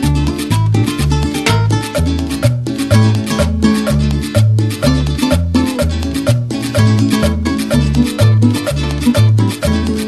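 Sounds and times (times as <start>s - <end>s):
latin dance music: 0.0s - 10.0s.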